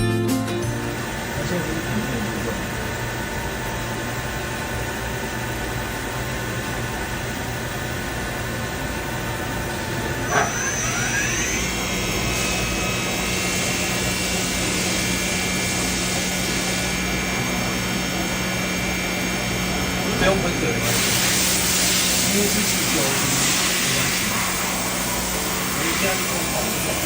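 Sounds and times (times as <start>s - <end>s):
milling machine humming: 0.0s - 27.0s
spindle whine: 0.0s - 27.0s.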